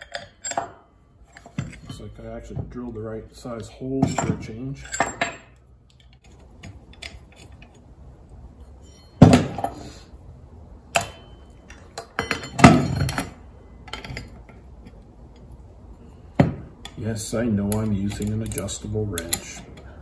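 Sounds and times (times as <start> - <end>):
bolts and wrench clinking on metal: 0.0 - 9.9, 10.9 - 15.6, 16.4 - 20.0.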